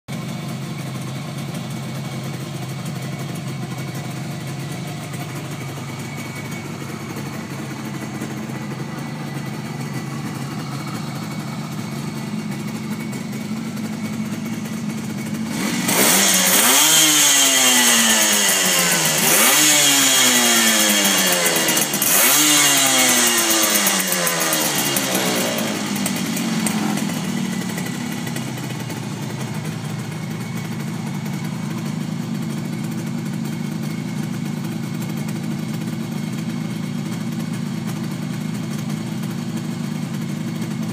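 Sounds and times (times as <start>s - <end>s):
two-stroke engine idling and revving: 0.1s - 40.9s.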